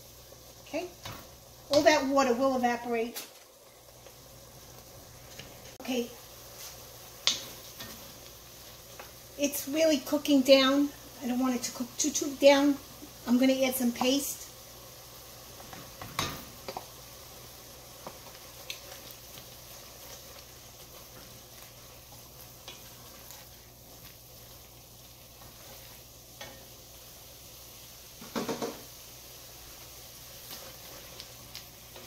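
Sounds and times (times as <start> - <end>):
vegetables sizzling in a pot: 0.0 - 32.0.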